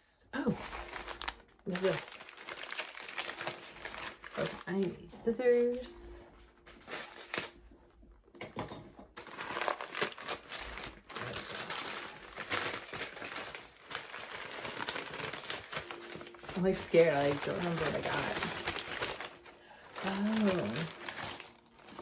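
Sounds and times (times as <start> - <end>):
packaging crinkling: 0.4 - 7.8, 9.1 - 22.0.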